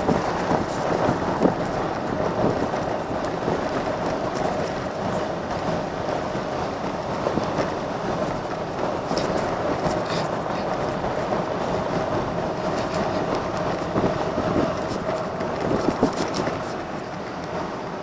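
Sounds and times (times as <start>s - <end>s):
cart rattling: 0.0s - 18.0s.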